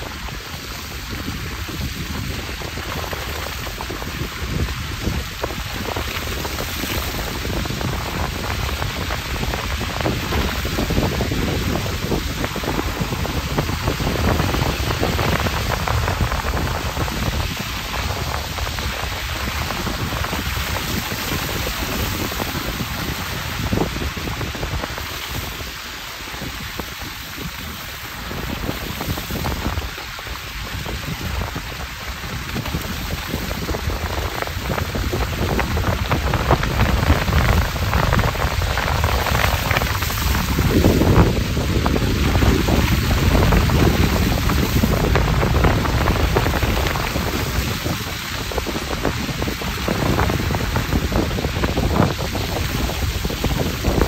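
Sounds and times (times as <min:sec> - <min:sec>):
car tyres through wet slush: 0:00.0 - 0:54.0.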